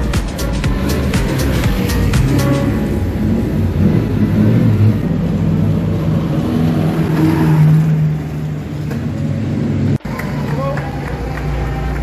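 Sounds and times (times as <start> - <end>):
sports car engines passing: 0.0 - 12.0.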